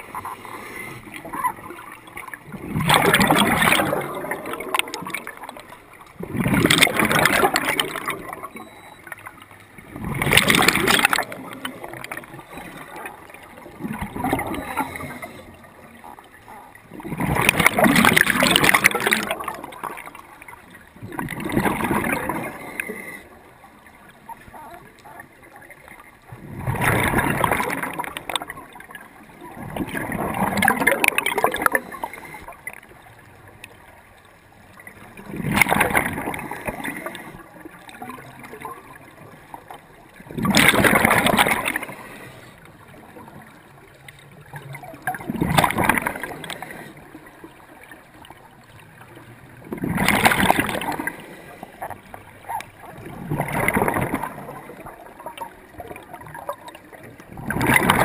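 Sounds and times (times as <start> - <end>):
scuba regulator bubbles: 0.0 - 58.0
underwater water noise: 0.0 - 58.0.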